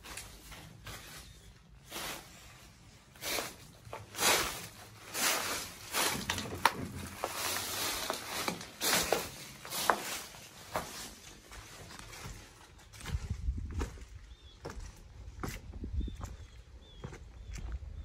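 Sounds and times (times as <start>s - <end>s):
footsteps: 1.9s - 17.9s.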